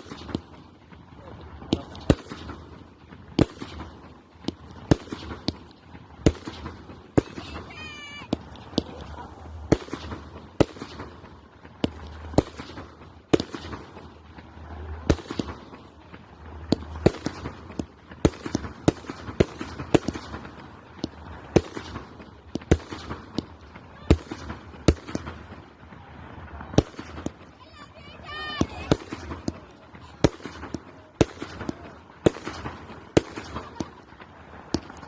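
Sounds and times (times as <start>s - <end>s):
firework cake bangs: 0.0s - 35.0s
firework crackling: 0.0s - 35.0s.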